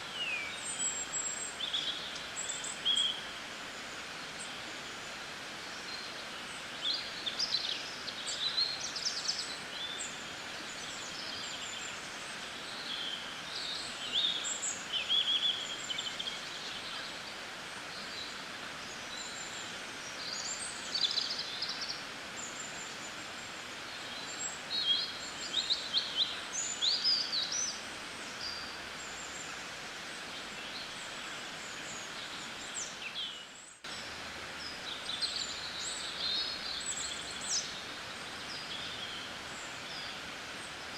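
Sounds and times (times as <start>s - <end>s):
small birds chirping: 0.0s - 40.9s
steady background hiss: 0.0s - 40.9s.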